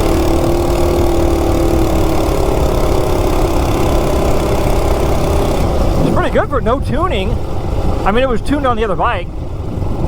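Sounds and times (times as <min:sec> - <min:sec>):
minibike engine running: 0:00.0 - 0:10.0.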